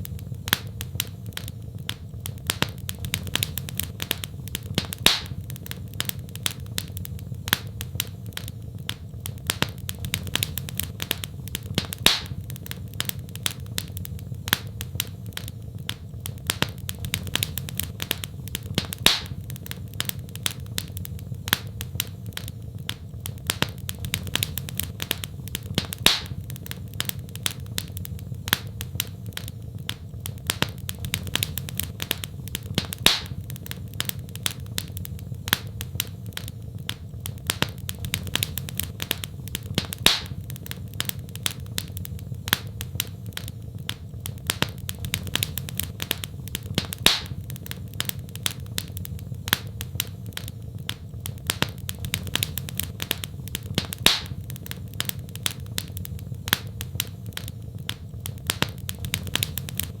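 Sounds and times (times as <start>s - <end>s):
wood fire crackling in fireplace: 0.0s - 60.0s.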